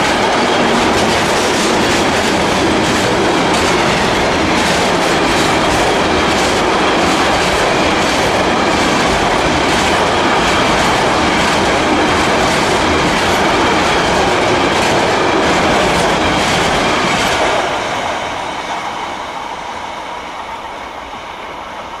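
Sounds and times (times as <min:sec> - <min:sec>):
wheel clatter on rails: 0:00.0 - 0:17.9.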